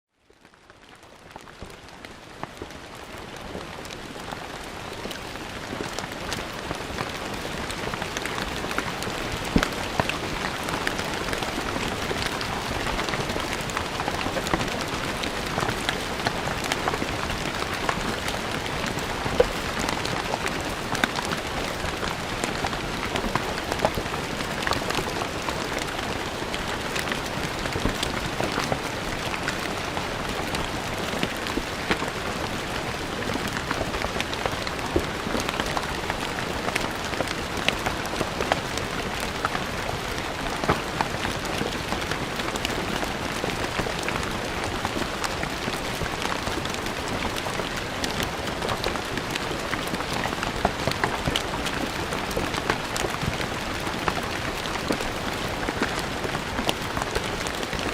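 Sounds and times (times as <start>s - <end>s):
rain on stone paving: 0.2s - 57.9s.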